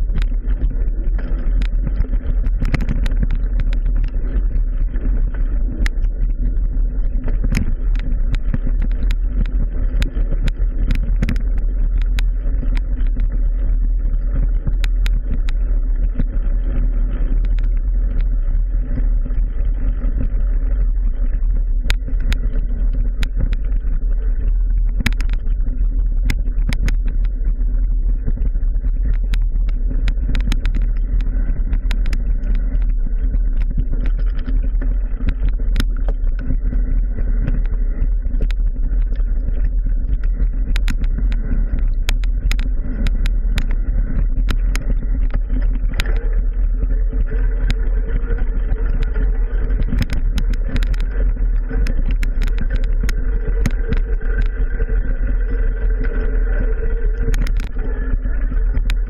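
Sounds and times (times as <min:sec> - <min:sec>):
sharp clicks and knocks: 0:00.0 - 0:13.4, 0:14.3 - 0:15.6, 0:21.8 - 0:27.4, 0:28.2 - 0:54.7, 0:57.2 - 0:57.9, 0:58.6 - 0:59.0
bike rolling noise: 0:00.0 - 0:59.0
wind rumble: 0:00.0 - 0:59.0.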